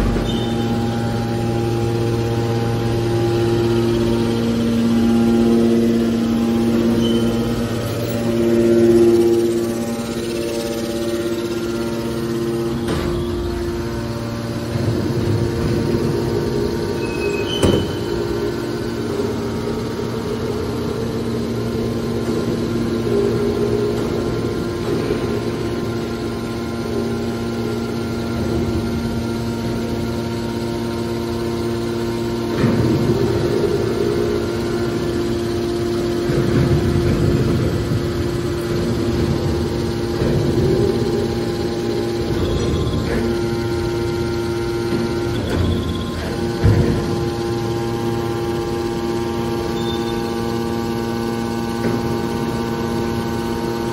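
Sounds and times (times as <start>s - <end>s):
hydraulic pump motor humming: 0.0s - 53.9s.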